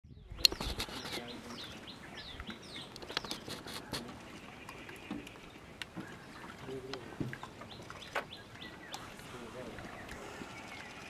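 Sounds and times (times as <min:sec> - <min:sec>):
birds chirping: 0:00.1 - 0:11.0
tiger lapping water: 0:00.4 - 0:11.0.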